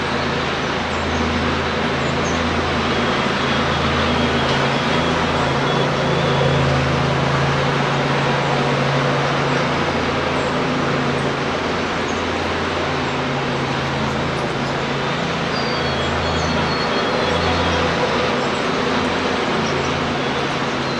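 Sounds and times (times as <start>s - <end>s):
traffic roar: 0.0s - 20.9s.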